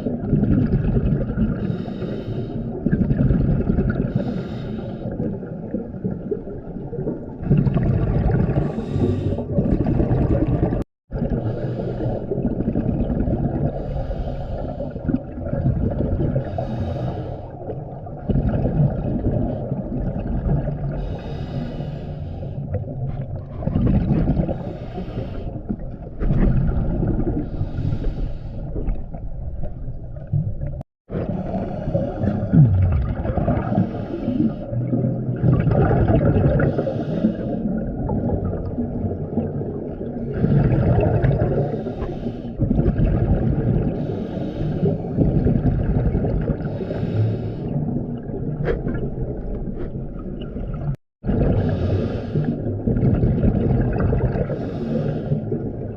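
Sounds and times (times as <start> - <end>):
exhaled bubbles gushing: 0.0 - 1.8, 2.7 - 4.4, 5.1 - 16.9, 17.6 - 21.3, 22.7 - 28.0, 28.6 - 55.9
muffled underwater rumble: 0.0 - 55.9.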